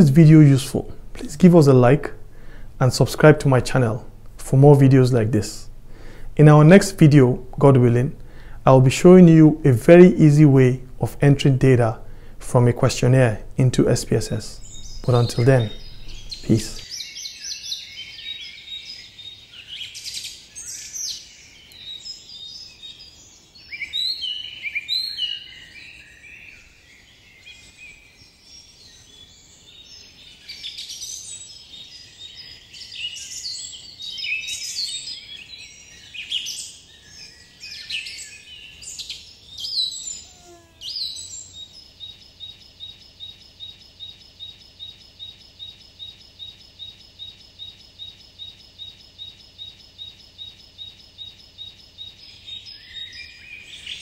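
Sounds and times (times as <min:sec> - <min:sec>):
birds chirping and trilling: 0:00.0 - 0:54.0
steady high bird chirp: 0:00.0 - 0:54.0.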